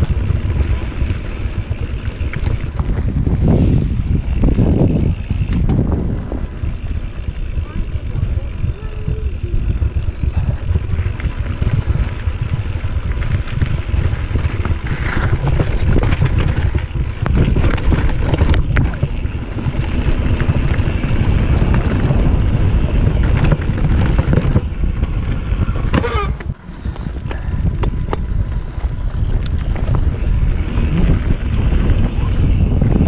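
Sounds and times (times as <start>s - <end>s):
bike clicks and rattles: 0.0s - 33.0s
bike tyre noise: 0.0s - 33.0s
wind buffeting microphone: 0.0s - 33.0s.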